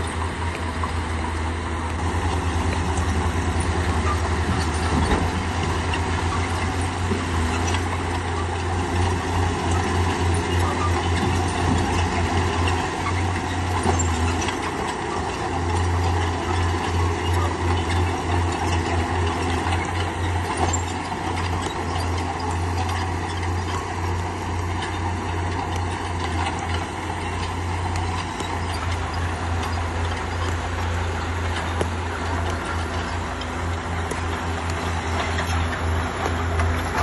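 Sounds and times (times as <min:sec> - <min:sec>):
diesel engine running: 0:00.0 - 0:37.0
metallic clicks and clanks: 0:02.7 - 0:37.0.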